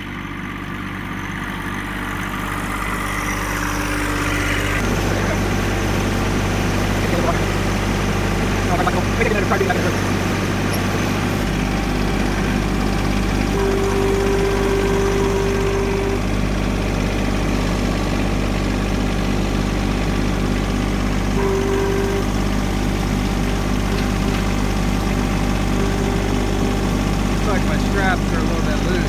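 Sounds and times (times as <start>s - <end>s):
hydraulics whine: 0.0s - 29.0s
tractor engine running: 0.0s - 29.0s.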